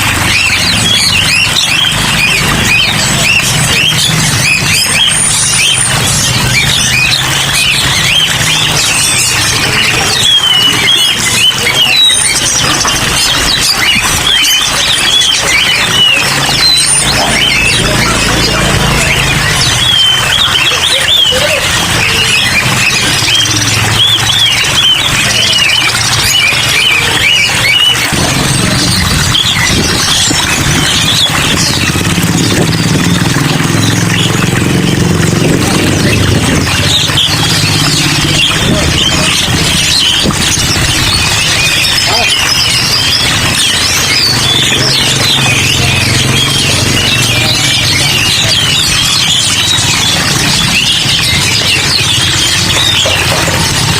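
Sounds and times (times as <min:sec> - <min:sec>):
engine idling low: 0:00.0 - 0:53.9
songbirds chirping and whistling: 0:00.0 - 0:53.9.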